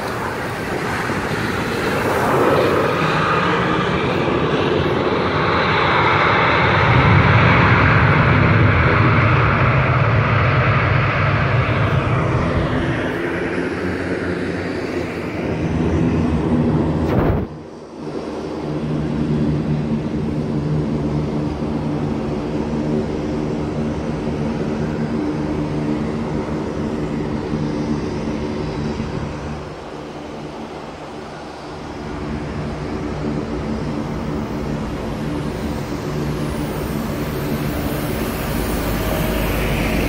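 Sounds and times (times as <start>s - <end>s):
jet engine drone: 0.0s - 40.0s
loud jet rush: 0.0s - 40.0s.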